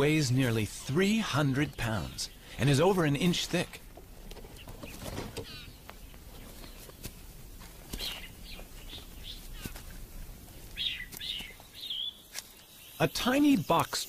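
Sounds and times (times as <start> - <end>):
birds chirping: 0.0 - 14.0
faint outdoor background: 0.0 - 14.0.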